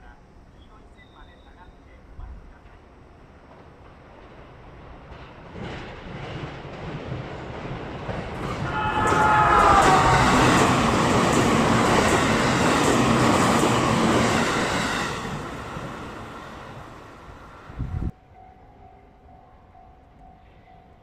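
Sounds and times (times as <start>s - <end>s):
electric train passing at speed: 1.2s - 21.0s.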